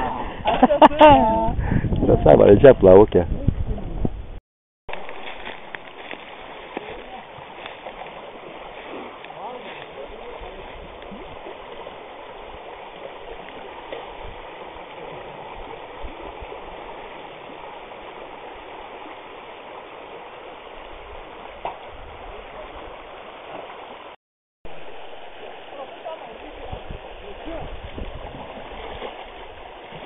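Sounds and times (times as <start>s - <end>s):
shallow river water rushing: 4.9s - 30.0s.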